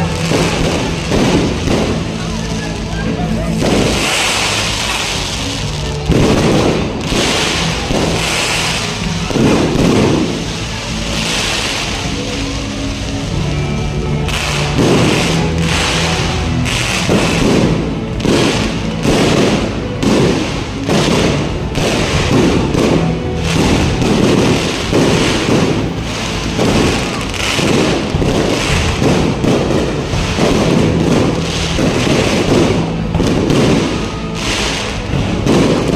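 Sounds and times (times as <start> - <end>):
crackling sparks: 0.0 - 35.9
fireworks booming: 0.0 - 35.9.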